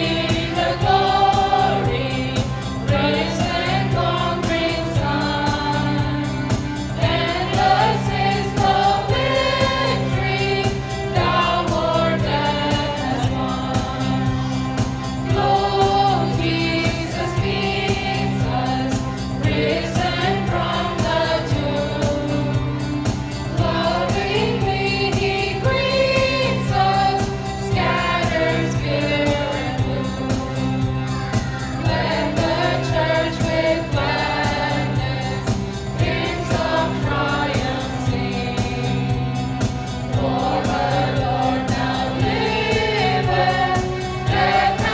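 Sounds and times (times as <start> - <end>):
mixed choir singing: 0.0 - 44.9.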